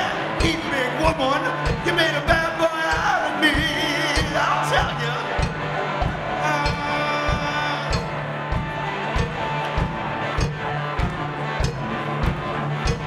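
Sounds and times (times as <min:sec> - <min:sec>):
bass guitar: 0:00.0 - 0:13.0
electric guitar: 0:00.0 - 0:13.0
kick drum beat: 0:00.0 - 0:13.0.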